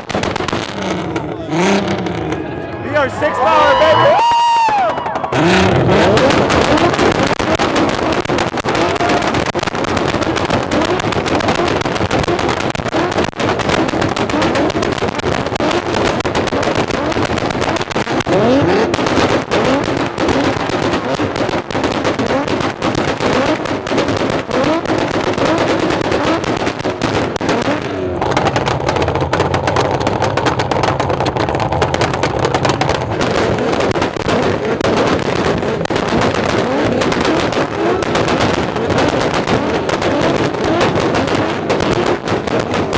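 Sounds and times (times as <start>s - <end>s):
car engines revving: 0.0s - 42.9s
exhaust pops and crackles: 0.0s - 42.9s.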